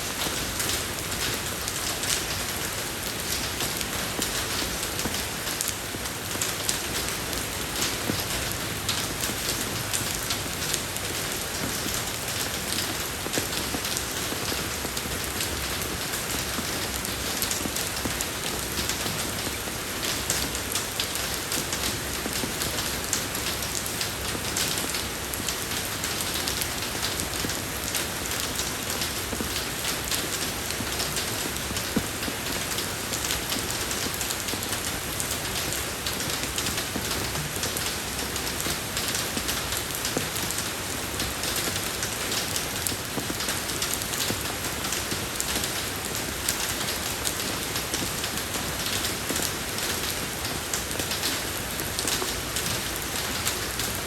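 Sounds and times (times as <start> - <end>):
rain falling on road: 0.0 - 54.0.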